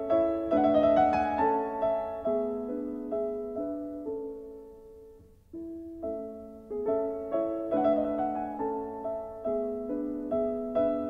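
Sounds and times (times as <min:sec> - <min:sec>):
gentle solo piano: 0:00.0 - 0:11.0.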